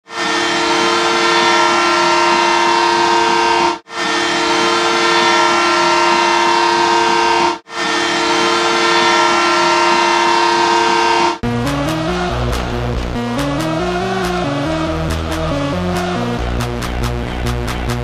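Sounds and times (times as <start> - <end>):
goal horn blasting: 0.0 - 14.7.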